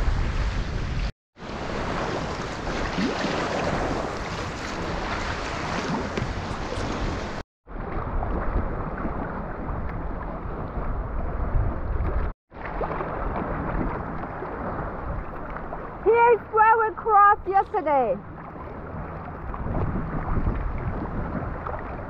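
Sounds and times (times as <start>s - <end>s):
wind buffeting microphone: 0.0s - 16.5s, 17.6s - 22.0s
water splashing along kayak hull: 0.1s - 22.0s.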